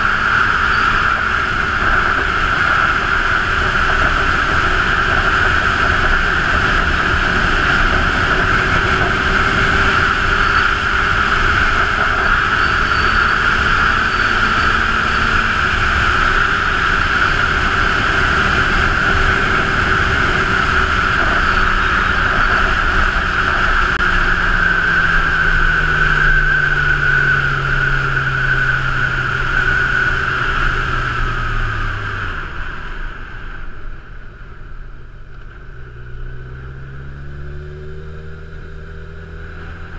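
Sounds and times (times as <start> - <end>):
wind rush on microphone: 0.0 - 35.8
motorcycle engine running: 0.0 - 39.9.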